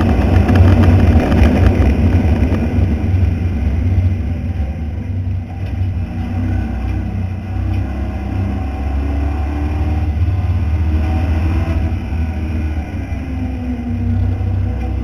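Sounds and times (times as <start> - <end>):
race car engine under load: 0.0 - 15.0.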